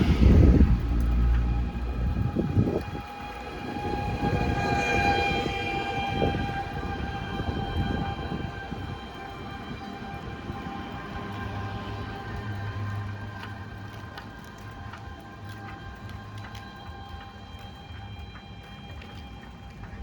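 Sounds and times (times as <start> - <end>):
low road rumble: 0.0 - 20.0.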